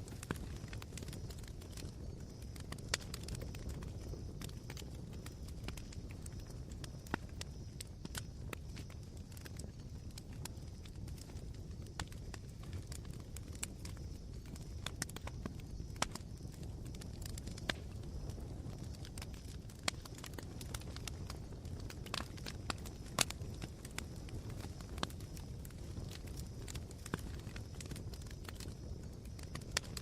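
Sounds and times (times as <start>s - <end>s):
campfire crackling and popping: 0.0s - 30.0s
low rumble of burning: 0.0s - 30.0s.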